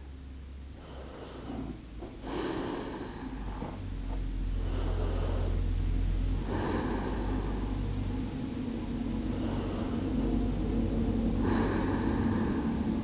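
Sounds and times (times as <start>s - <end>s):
low rumble: 0.0s - 13.0s
slow deep breathing: 0.0s - 13.0s.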